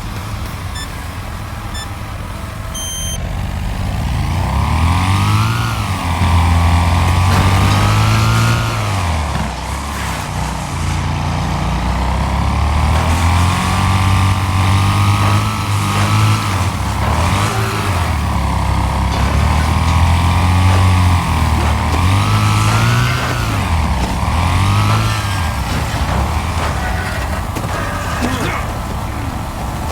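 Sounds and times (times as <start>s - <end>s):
lawnmower engine running: 0.0s - 29.9s.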